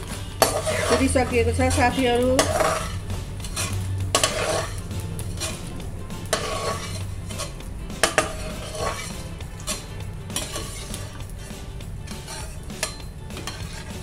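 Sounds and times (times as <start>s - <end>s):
frying sizzle: 0.0s - 14.0s
metal knocking on pan: 0.0s - 14.0s
metal spatula scraping a pan: 0.0s - 14.0s.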